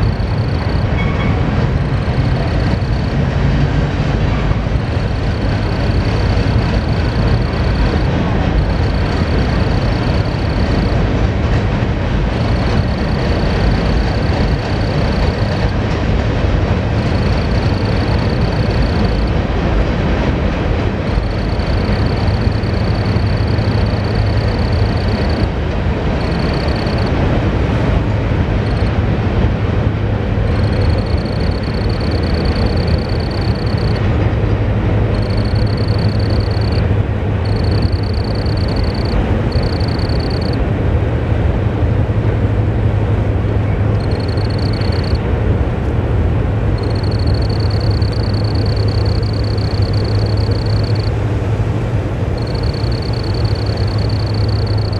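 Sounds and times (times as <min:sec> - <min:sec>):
cricket chirping in trills: 0:00.0 - 0:03.7, 0:04.6 - 0:11.4, 0:12.3 - 0:29.2, 0:30.4 - 0:40.6, 0:43.8 - 0:45.3, 0:46.7 - 0:54.9
freight train rumbling on bridge: 0:00.0 - 0:54.9.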